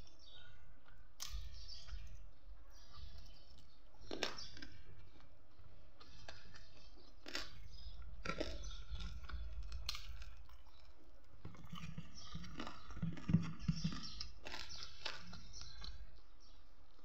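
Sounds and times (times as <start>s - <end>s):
person chewing: 0.0s - 17.0s.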